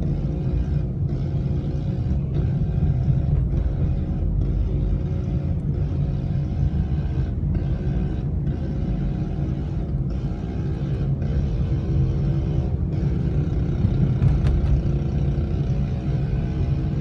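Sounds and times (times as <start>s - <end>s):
motorbike engine rumble: 0.0s - 17.0s.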